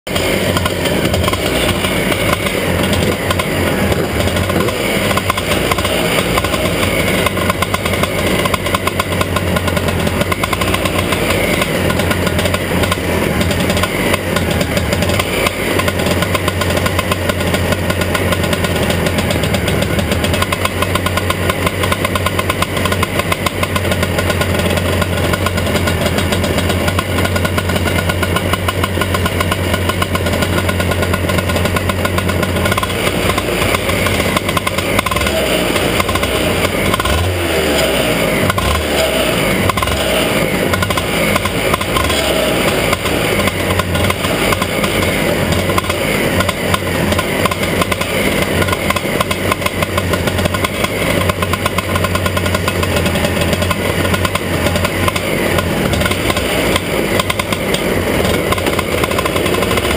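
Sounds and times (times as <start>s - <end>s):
kart engines idling: 0.0s - 59.9s.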